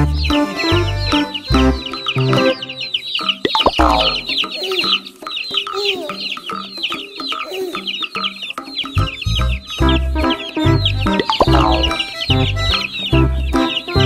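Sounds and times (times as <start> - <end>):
chicks peeping: 0.0 - 14.0
lower chick calls: 0.0 - 14.0.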